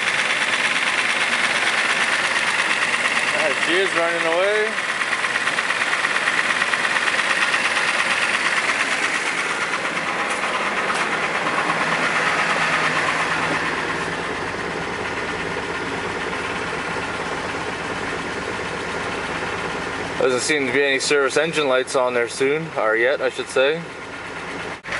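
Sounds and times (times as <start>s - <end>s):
car engine idling: 0.0s - 24.9s
engine ticking knock: 0.0s - 24.9s.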